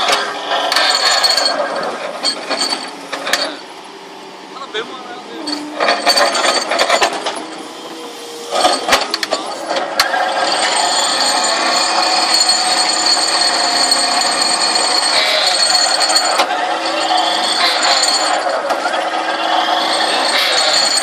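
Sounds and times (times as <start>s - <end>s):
excavator drone with high whine: 0.0s - 21.0s.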